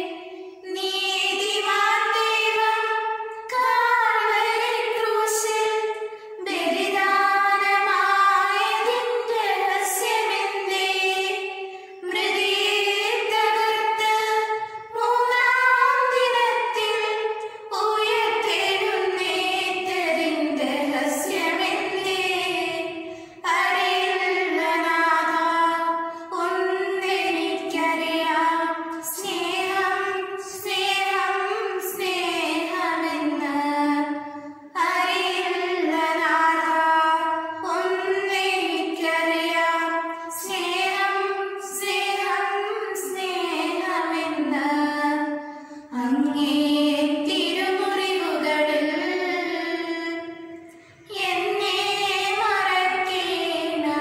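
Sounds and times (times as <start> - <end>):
girls singing together: 0.0 - 54.0.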